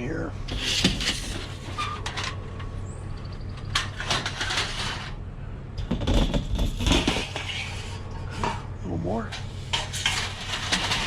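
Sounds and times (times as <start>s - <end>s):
steady low hum: 0.0s - 11.0s
scrap clattering and knocking: 0.5s - 5.2s, 5.8s - 11.0s.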